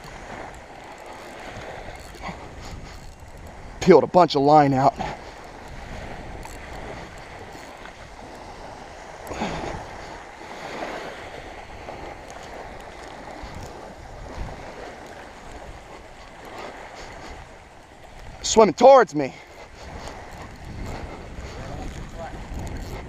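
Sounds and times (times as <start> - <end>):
small waves washing on beach: 0.0 - 23.0
wind rumbling on microphone: 0.0 - 23.0.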